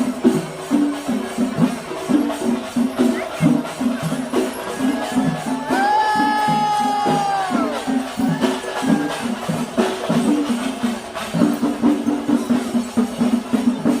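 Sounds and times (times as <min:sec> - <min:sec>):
drums: 0:00.0 - 0:14.0
jingling metal percussion: 0:00.0 - 0:14.0.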